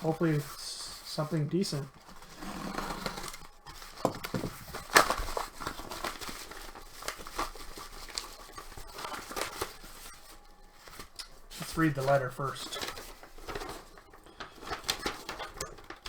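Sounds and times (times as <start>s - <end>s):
packaging crinkling and tearing: 1.8s - 16.0s
scattered clicks: 2.9s - 16.0s.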